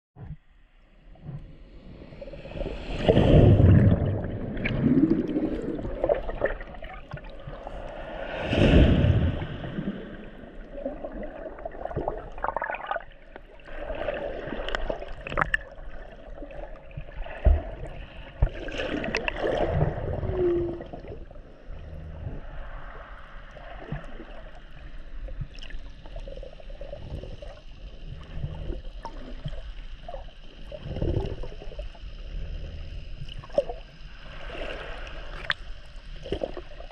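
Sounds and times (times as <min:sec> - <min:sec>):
underwater sloshing and gurgling: 0:00.2 - 0:36.9.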